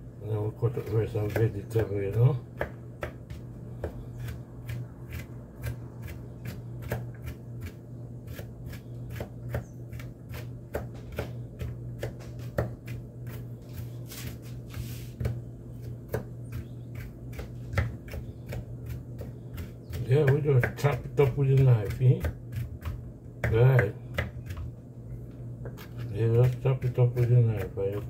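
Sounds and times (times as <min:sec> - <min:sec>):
steady low hum: 0:00.0 - 0:28.0
knife chopping on cutting board: 0:00.8 - 0:24.7, 0:25.6 - 0:28.0.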